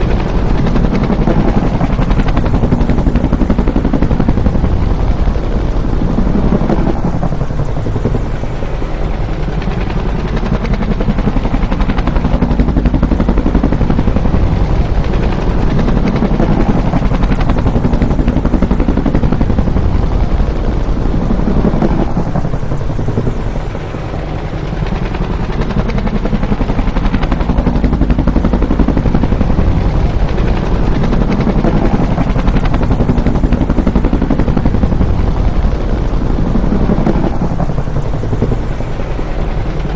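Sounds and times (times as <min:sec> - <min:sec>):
helicopter rotor blades beating: 0:00.0 - 0:39.9.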